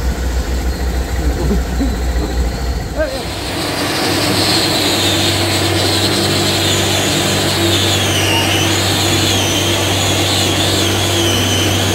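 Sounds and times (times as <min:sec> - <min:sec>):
high wavering whine: 0:00.0 - 0:11.9
low machinery hum: 0:00.0 - 0:11.9.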